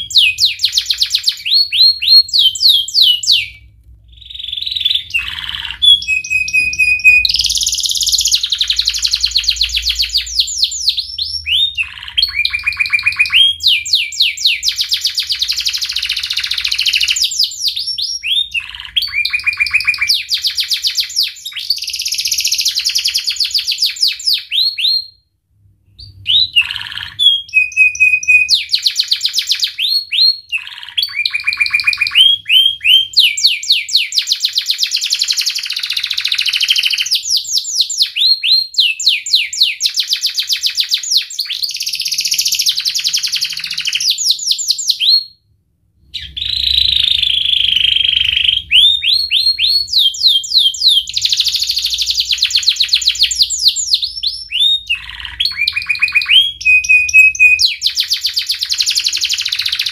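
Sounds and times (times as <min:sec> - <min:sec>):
canary singing trills: 0:00.0 - 0:25.2, 0:26.0 - 0:45.4, 0:46.1 - 0:59.9.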